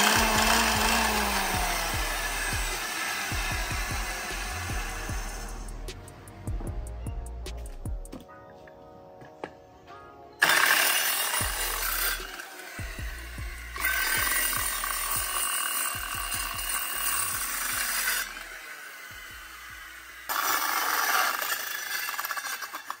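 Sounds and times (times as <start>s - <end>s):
circular saw cutting wood: 0.0s - 8.2s, 10.4s - 23.0s.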